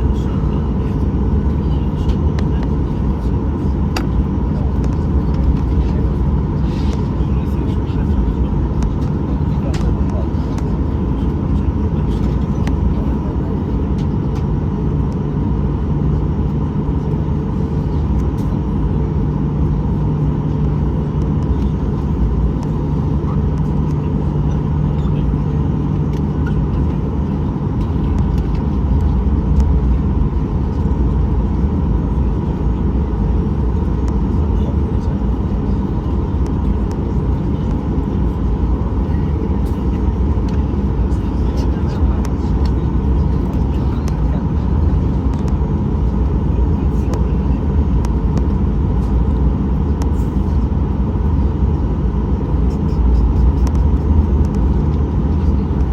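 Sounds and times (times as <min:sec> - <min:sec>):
jet engine hum and whine: 0:00.0 - 0:55.9.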